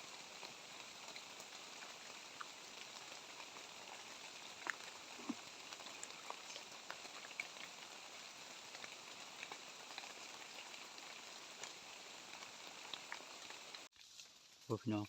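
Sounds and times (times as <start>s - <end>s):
drops ticking on leaves: 0.0s - 15.0s
light rain falling: 0.0s - 15.0s.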